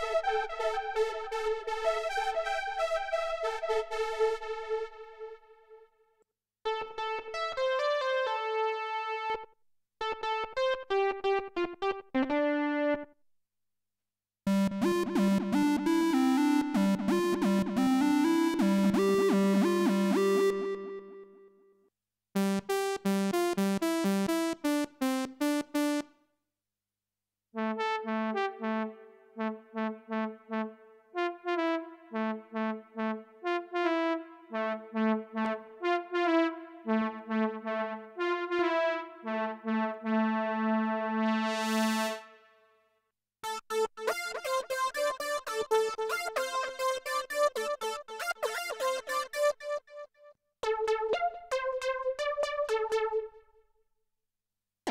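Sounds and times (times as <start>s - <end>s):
synthesizer lead melody gliding: 0.0s - 5.4s, 6.7s - 9.4s, 10.0s - 13.1s, 14.5s - 21.5s, 22.4s - 26.1s, 27.6s - 42.4s, 43.4s - 49.9s, 50.6s - 53.4s.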